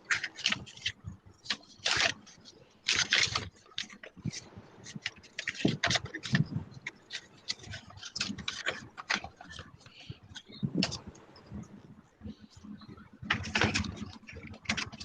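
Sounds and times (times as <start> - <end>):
paper being folded and crinkling: 0.1 - 11.0, 13.3 - 15.0.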